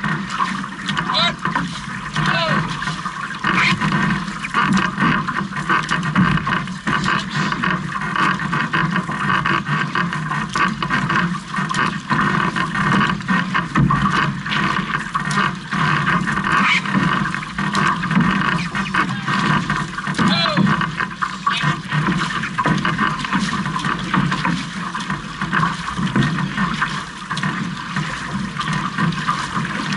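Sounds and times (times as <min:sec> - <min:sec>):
paddle splashes: 0:00.0 - 0:29.9
water rushing along hull: 0:00.0 - 0:29.9.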